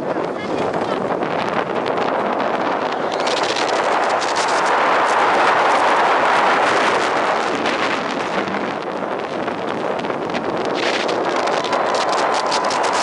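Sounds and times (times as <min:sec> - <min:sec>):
wind rushing over microphone: 0:00.0 - 0:13.0
roller coaster wheels rattling: 0:00.6 - 0:13.0.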